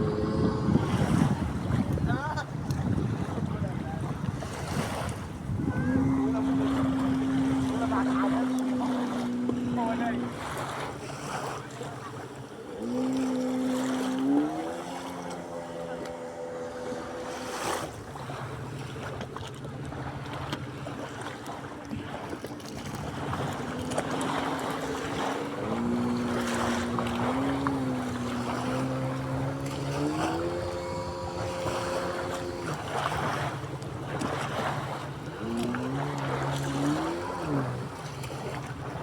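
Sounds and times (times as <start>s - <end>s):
motor humming: 0.0s - 3.0s, 5.1s - 20.4s, 22.4s - 39.0s
sea waves washing: 0.0s - 39.0s.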